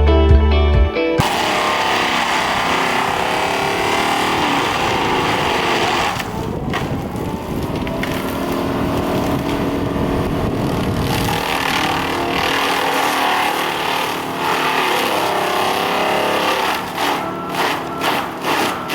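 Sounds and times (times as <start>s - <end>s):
mulcher grinding material: 1.2s - 18.9s.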